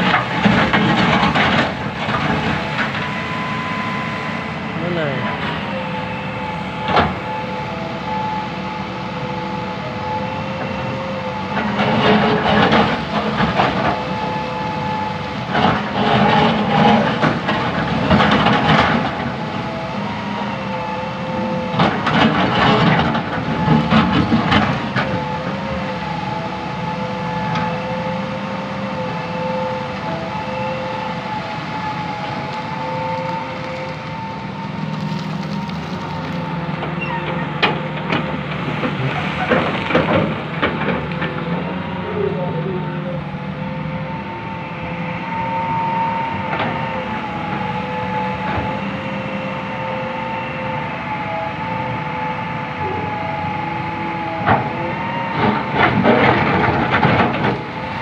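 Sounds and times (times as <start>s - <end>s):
excavator engine whine: 0.0s - 58.0s.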